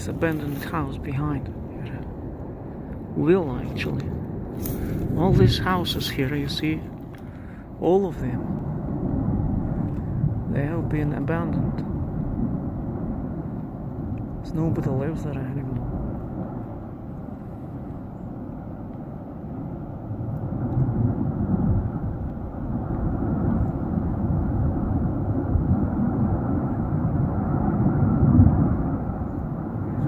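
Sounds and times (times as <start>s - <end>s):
volcano erupting rumbling roar: 0.0s - 30.0s.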